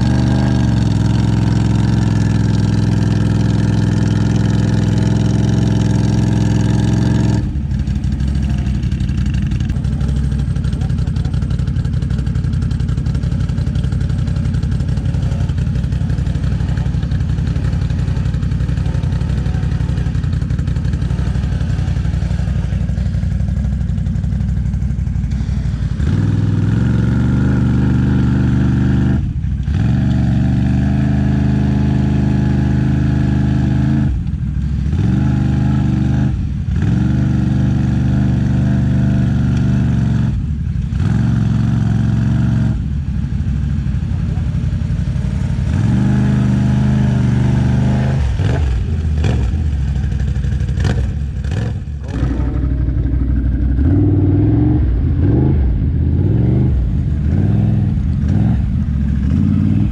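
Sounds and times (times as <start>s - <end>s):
atv engines idling and revving: 0.0s - 59.9s.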